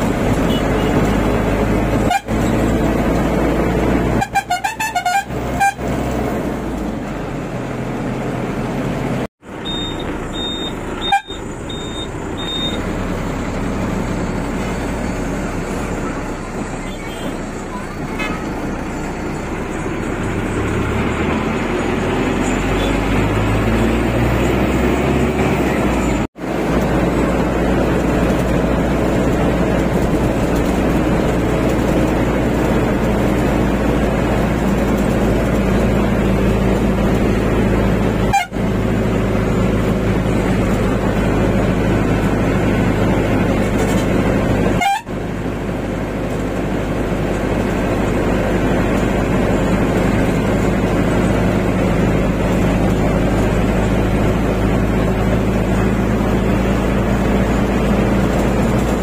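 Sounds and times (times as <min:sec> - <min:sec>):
van engine and tyre noise: 0:00.0 - 0:59.0.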